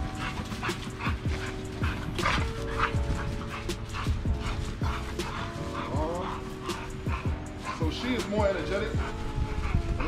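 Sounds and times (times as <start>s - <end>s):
dogs yipping and whimpering: 0.0s - 10.0s
music with deep bass drum: 0.0s - 10.0s.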